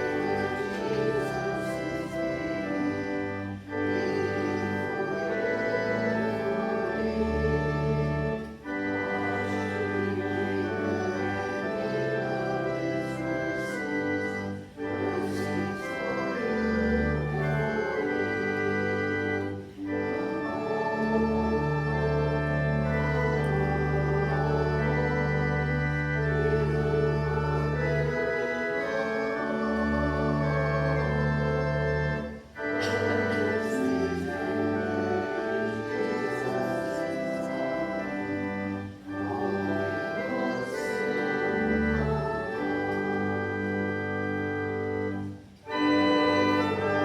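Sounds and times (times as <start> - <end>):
church organ playing a hymn: 0.0 - 47.0.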